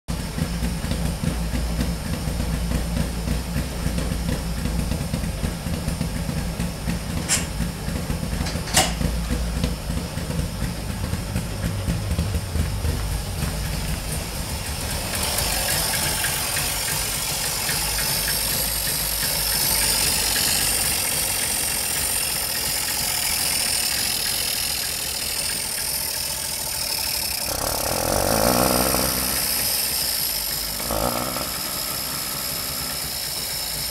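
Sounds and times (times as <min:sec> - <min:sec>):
two-stroke engine idling: 0:00.1 - 0:33.9.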